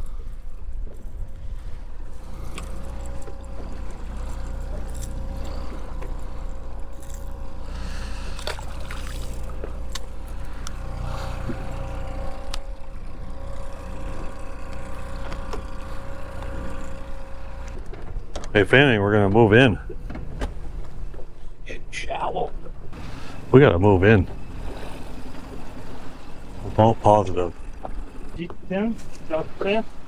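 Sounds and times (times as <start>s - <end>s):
outboard motor running: 0.0s - 30.0s
water noise: 0.0s - 30.0s
wind: 0.0s - 30.0s.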